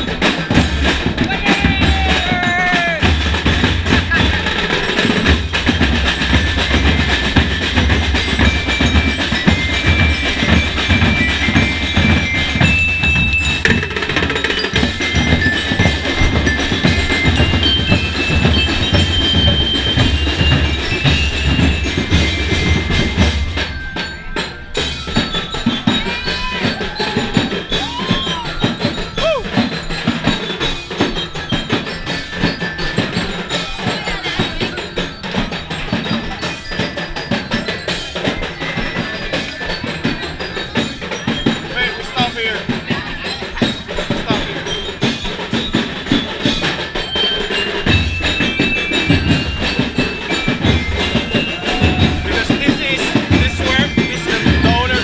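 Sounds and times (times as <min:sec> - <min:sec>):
crowd voices and shouts: 0:00.0 - 0:55.0
massed drums beating fast rhythm: 0:00.0 - 0:55.0.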